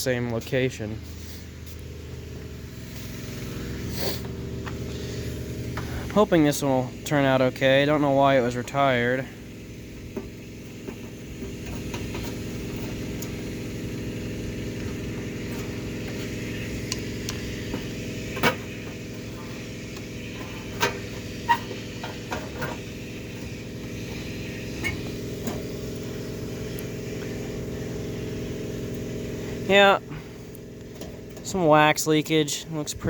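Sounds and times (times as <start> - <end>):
pressure washer engine drone: 0.0 - 33.0.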